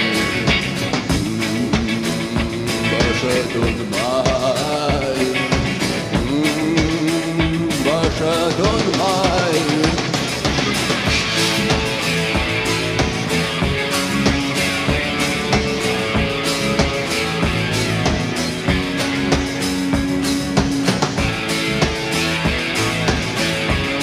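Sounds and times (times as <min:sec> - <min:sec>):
rock band playing instrumental: 0:00.0 - 0:24.0.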